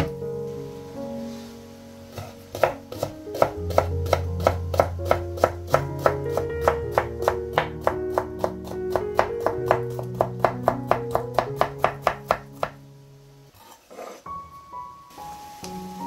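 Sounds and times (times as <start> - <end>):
music with held notes: 0.0 - 13.5, 14.2 - 16.0.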